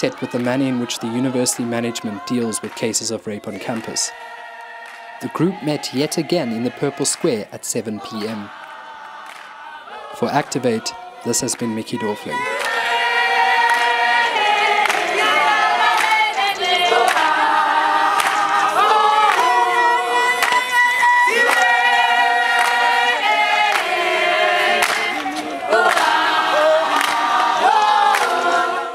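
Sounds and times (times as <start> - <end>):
group singing in harmony: 0.0 - 28.9.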